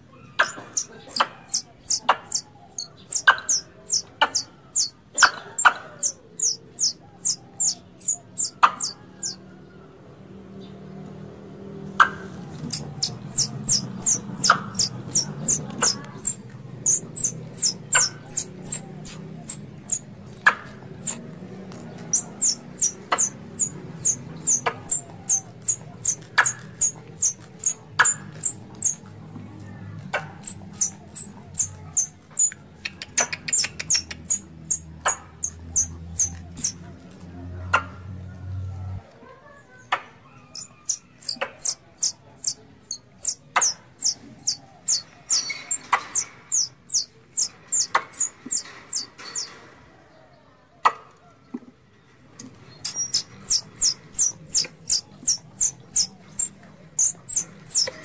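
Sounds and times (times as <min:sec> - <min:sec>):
squirrels chirping: 0:00.0 - 0:09.4, 0:11.9 - 0:29.2, 0:30.0 - 0:37.0, 0:40.2 - 0:49.6, 0:52.6 - 0:58.0
sharp ticks: 0:00.4 - 0:09.4, 0:12.0 - 0:29.2, 0:30.0 - 0:36.9, 0:40.0 - 0:49.5, 0:52.8 - 0:58.0.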